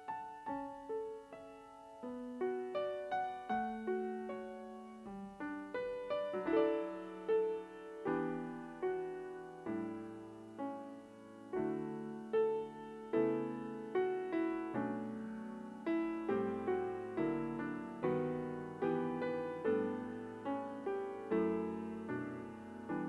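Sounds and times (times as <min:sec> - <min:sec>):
slow solo piano: 0:00.0 - 0:23.0.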